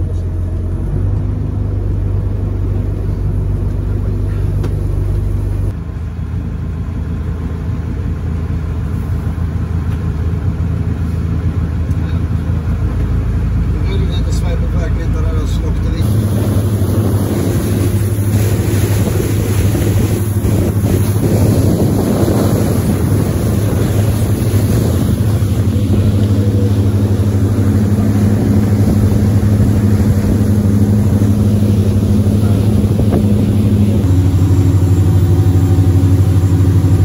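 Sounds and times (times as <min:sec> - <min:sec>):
motorboat engine drone: 0:00.0 - 0:37.0
water rushing along hull: 0:00.0 - 0:37.0.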